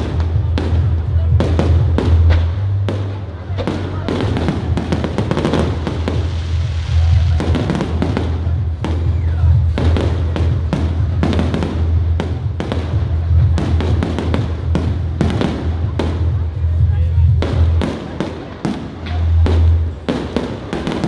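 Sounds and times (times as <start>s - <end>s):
fireworks exploding: 0.0s - 21.0s
music with heavy bass: 0.0s - 21.0s.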